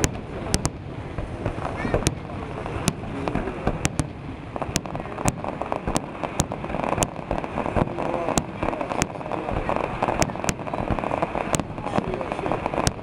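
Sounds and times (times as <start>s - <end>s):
aerial shells bursting: 0.0s - 13.0s
fireworks crackling: 0.0s - 13.0s.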